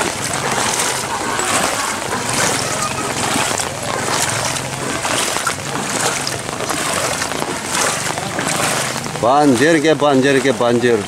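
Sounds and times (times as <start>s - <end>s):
rain pattering on floodwater: 0.0s - 11.0s
water splashing: 0.0s - 11.0s.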